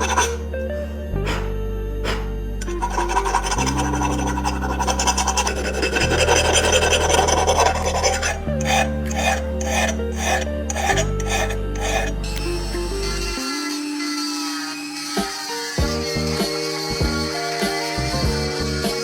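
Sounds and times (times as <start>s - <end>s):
background music low notes: 0.0s - 19.0s
hand filing metal: 0.0s - 19.0s.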